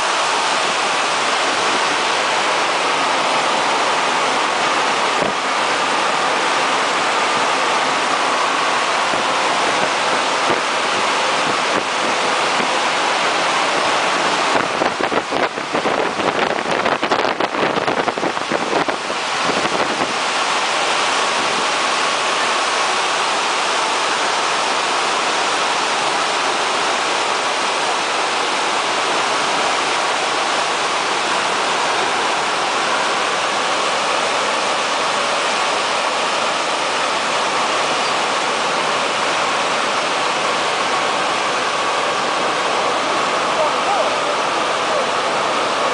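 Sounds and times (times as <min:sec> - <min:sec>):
car wash drying blowers rushing: 0:00.0 - 0:45.9.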